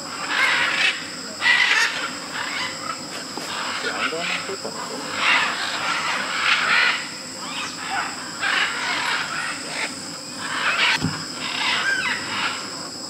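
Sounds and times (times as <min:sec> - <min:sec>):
macaws squawking: 0:00.1 - 0:12.9.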